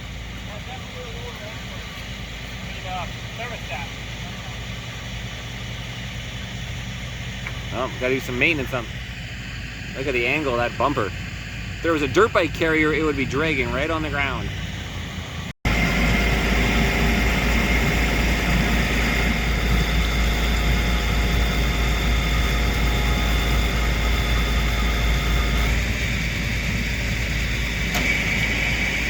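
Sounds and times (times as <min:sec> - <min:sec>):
truck engine whining: 0:00.0 - 0:29.0.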